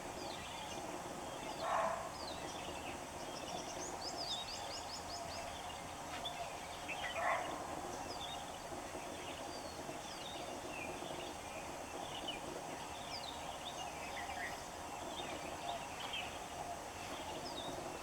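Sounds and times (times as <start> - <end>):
background hum: 0.0 - 18.0.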